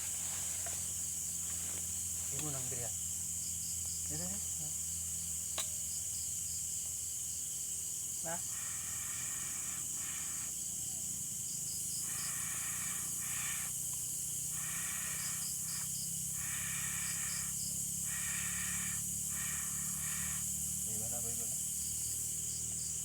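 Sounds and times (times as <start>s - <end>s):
buzzing insect call: 0.0s - 23.0s
high-pitched insect hiss: 0.0s - 23.0s.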